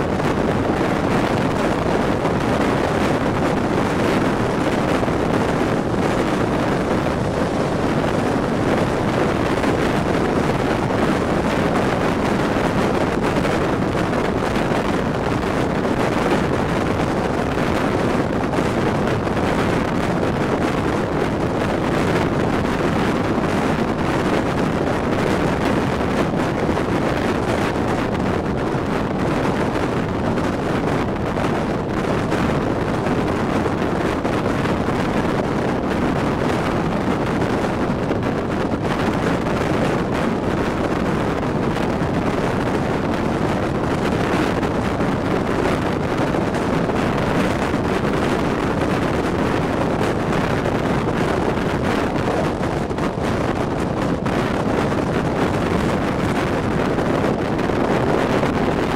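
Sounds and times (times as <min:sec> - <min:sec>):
train rolling at speed: 0:00.0 - 0:58.9
wind on microphone: 0:00.0 - 0:58.9.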